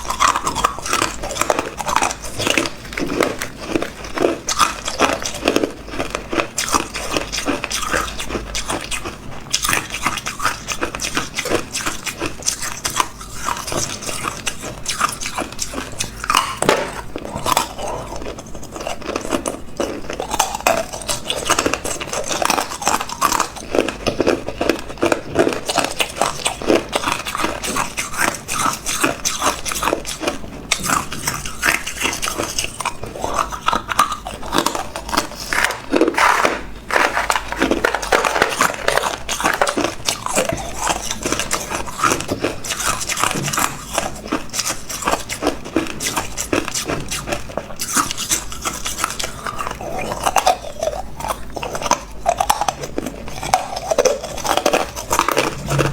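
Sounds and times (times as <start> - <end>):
ice crunching between teeth: 0.0 - 55.9.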